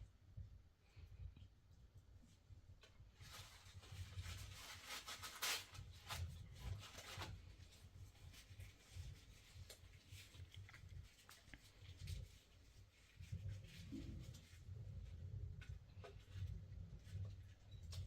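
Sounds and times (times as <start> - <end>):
faint rustling and scraping: 0.0 - 18.0.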